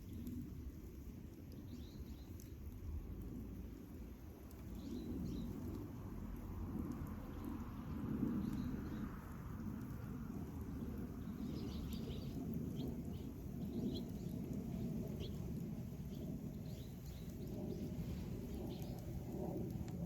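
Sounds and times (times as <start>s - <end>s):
campfire burning: 0.0s - 20.0s
fire crackles: 0.0s - 20.0s
small birds chirping: 1.5s - 2.8s, 4.4s - 19.9s.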